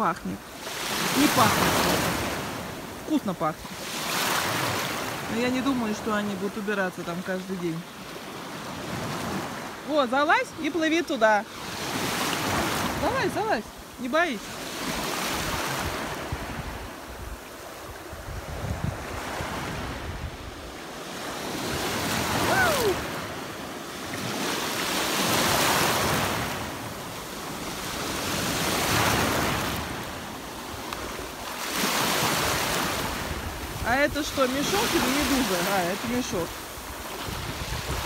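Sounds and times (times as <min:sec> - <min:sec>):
small waves washing in: 0:00.0 - 0:38.0.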